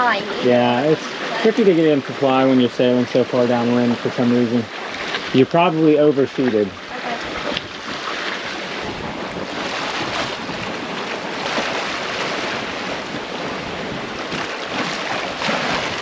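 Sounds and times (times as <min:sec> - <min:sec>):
sea water washing past boat: 0:00.0 - 0:16.0
wind buffeting microphone: 0:00.0 - 0:16.0.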